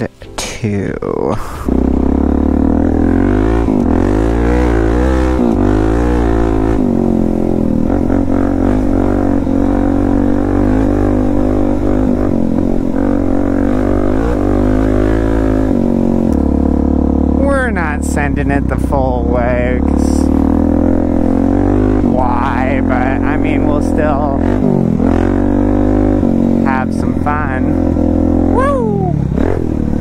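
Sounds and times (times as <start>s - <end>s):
motorcycle engine revving: 1.2s - 30.0s.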